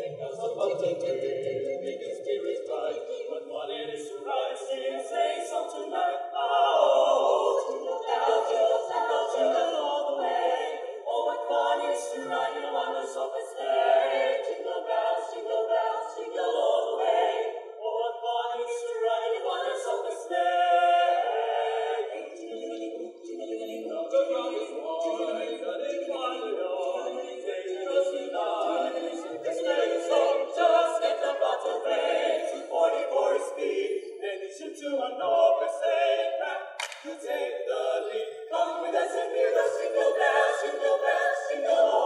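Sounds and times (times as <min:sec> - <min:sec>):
choir singing a cappella: 0:00.0 - 0:42.0.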